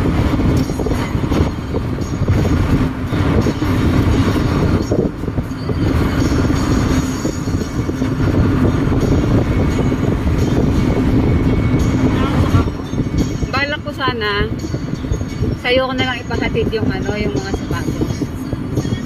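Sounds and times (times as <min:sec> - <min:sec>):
car cabin road rumble and engine: 0:00.0 - 0:19.0.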